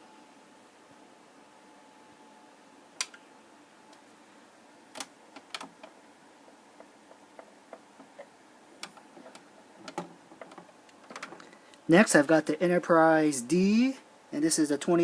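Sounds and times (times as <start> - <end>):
faint room hiss: 0.0 - 15.0.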